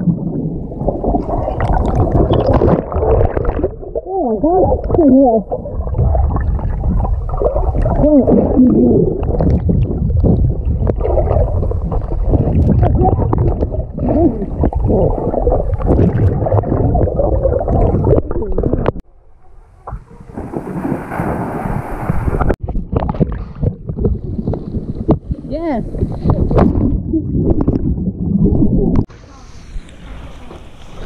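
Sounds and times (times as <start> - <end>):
underwater gurgling and sloshing: 0.0 - 31.0.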